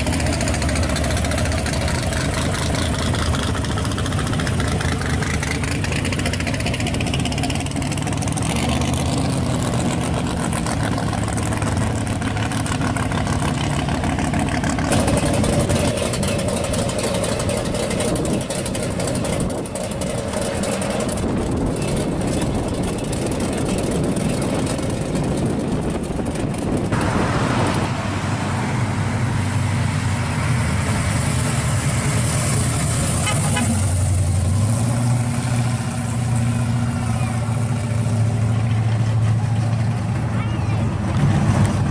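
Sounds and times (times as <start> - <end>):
cars driving past slowly: 0.0 - 41.9
low engine note: 0.0 - 41.9.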